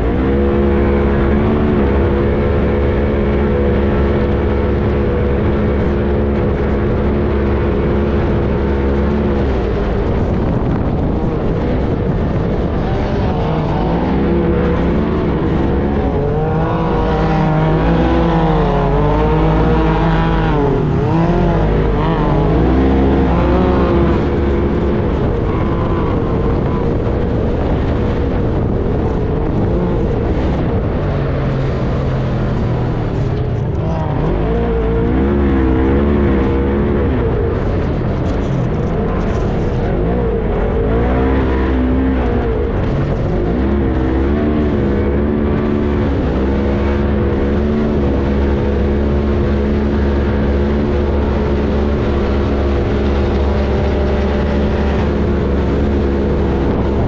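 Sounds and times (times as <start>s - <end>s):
off-road vehicle engine droning: 0.0s - 57.0s
other vehicle engines: 0.0s - 57.0s.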